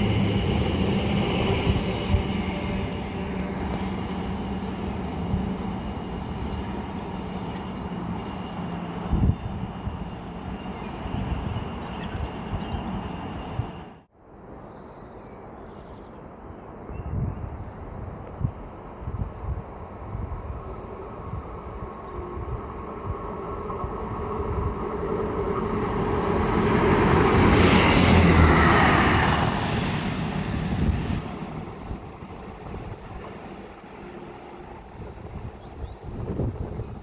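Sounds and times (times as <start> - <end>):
wind buffeting microphone: 0.0 - 13.8, 16.8 - 37.0
train passing: 0.0 - 14.4, 18.1 - 37.0.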